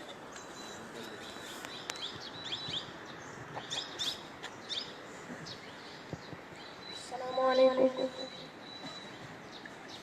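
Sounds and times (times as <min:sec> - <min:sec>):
small birds chirping: 0:00.0 - 0:10.0
steady background hiss: 0:00.0 - 0:10.0.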